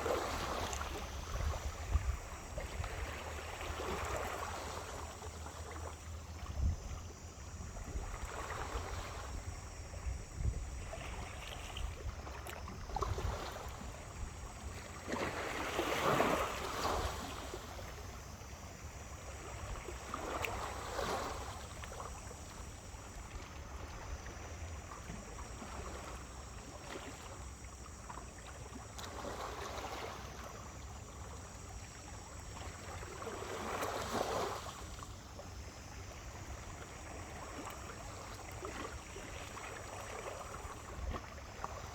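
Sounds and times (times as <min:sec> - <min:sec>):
small waves washing on beach: 0:00.0 - 0:41.9.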